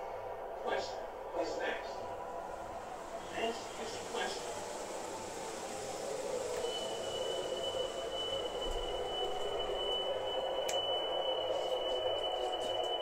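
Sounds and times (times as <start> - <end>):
model train rumbling hum: 0.0 - 13.0.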